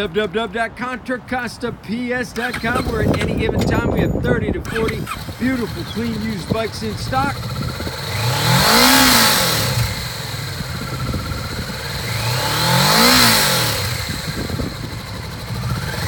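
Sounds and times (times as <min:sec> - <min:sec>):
motorcycle engine revving: 0:02.4 - 0:16.0.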